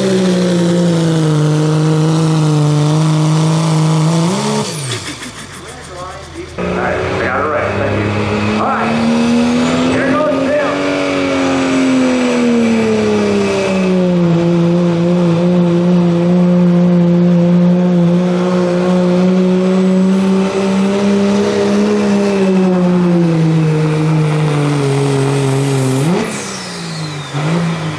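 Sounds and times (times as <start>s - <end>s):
diesel engine at full throttle: 0.0s - 27.9s.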